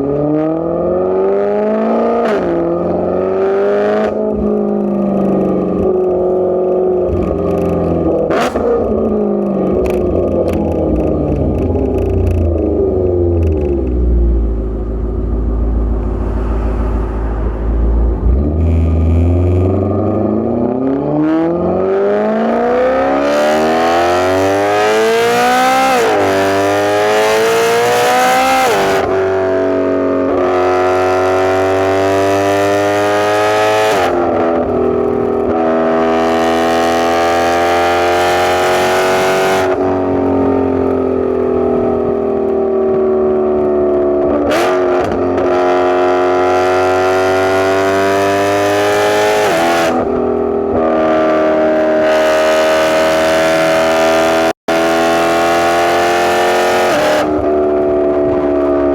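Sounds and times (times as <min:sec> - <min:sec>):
car engine revving and upshifting: 0:00.0 - 0:58.9.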